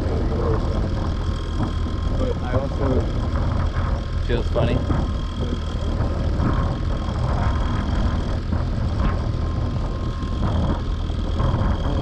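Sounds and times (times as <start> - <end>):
boat motor running: 0.0 - 12.0
wind and waves rumbling: 0.0 - 12.0.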